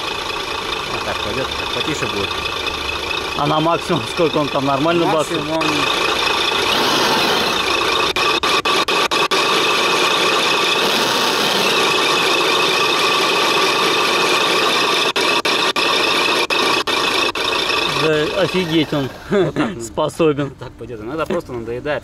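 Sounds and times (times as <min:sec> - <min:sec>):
simulated truck engine idling: 0:00.0 - 0:22.0.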